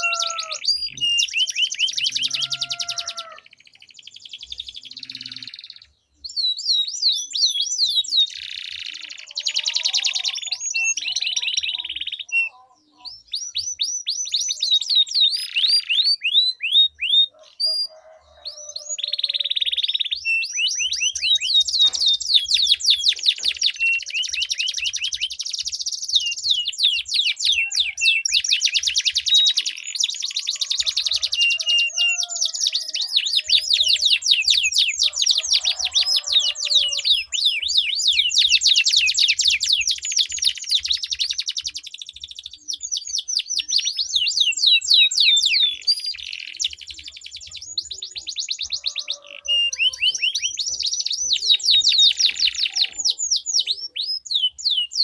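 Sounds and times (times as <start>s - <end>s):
canaries singing trills: 0.0s - 55.0s.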